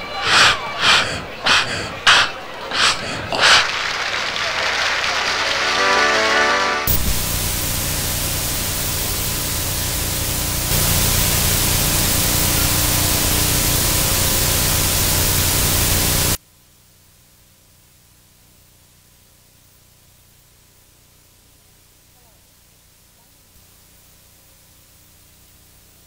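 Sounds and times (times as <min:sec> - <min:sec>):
loud static hiss: 0:00.0 - 0:26.0.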